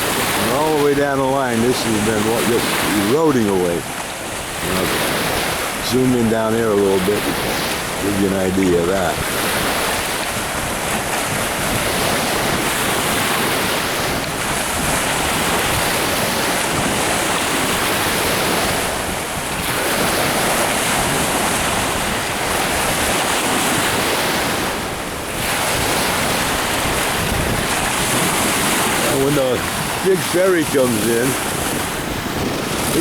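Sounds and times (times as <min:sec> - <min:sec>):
lake waves washing against bank: 0:00.0 - 0:33.0
strong wind on microphone: 0:00.0 - 0:33.0.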